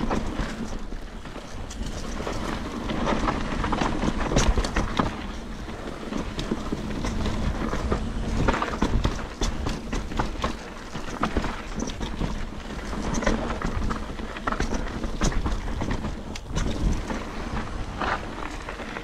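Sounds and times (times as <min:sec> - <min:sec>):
bike rattling over rocks: 0:00.0 - 0:19.0
wind buffeting microphone: 0:00.0 - 0:19.0.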